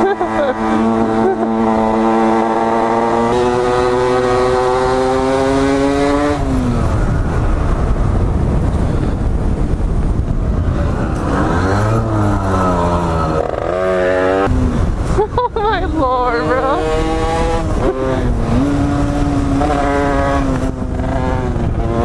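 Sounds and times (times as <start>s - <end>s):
motorcycle engine revving: 0.0s - 7.6s, 10.4s - 22.0s
wind and road rush: 0.0s - 22.0s.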